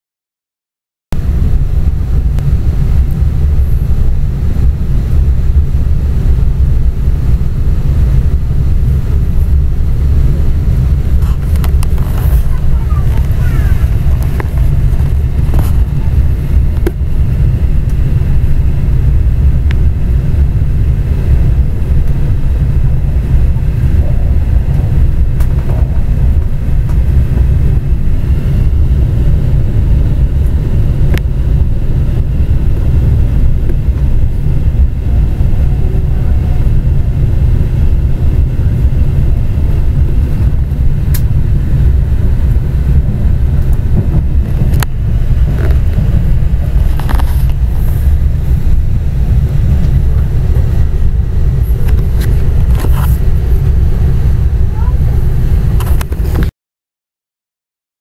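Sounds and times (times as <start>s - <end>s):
train cabin rumble: 1.2s - 56.5s.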